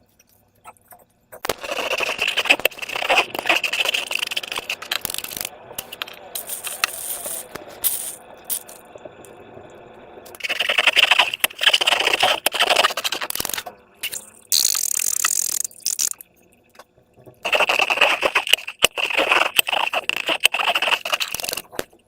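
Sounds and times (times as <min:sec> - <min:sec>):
slime crackling and clicking: 0:01.4 - 0:08.8, 0:10.3 - 0:16.3, 0:17.4 - 0:22.0.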